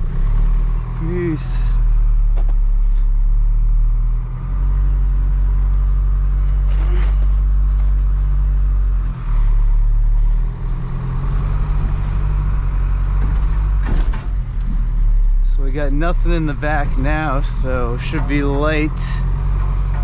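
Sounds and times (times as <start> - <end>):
truck diesel engine accelerating: 0.0 - 20.0.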